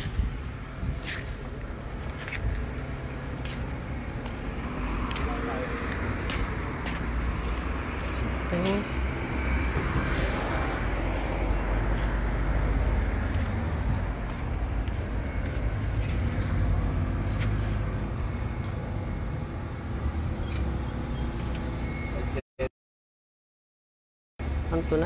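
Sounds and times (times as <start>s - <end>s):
cars passing on street: 0.0s - 22.4s, 24.4s - 25.0s.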